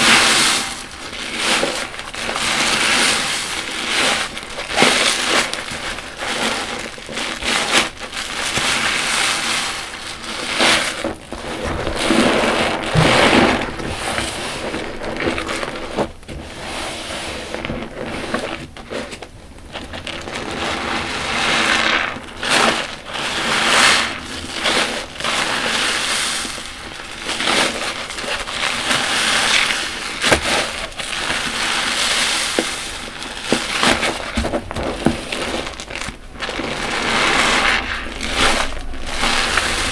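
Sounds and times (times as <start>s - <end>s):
wet sponge squelches: 0.0s - 39.9s.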